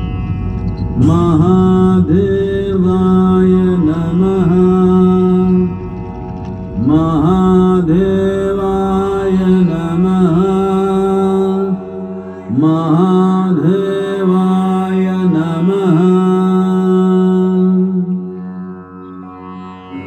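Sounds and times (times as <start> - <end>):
person singing devotional chant: 0.0 - 20.0.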